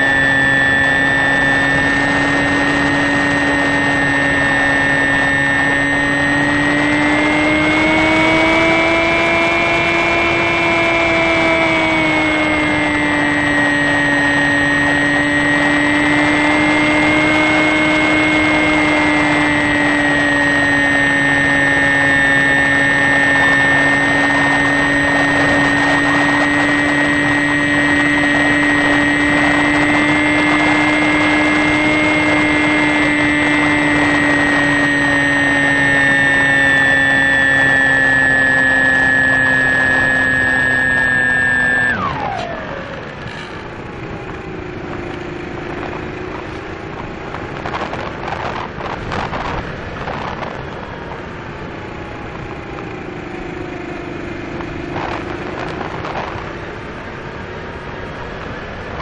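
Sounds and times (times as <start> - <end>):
motor spinning down: 0.0 - 51.2
electric motor and propeller whine: 0.0 - 59.0.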